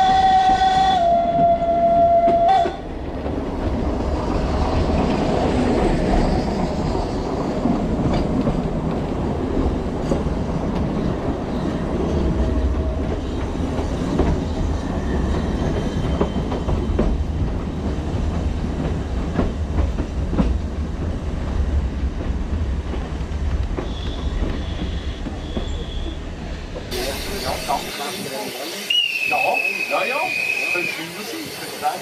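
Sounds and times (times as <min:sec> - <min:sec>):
train carriage rumbling: 0:00.0 - 0:32.0.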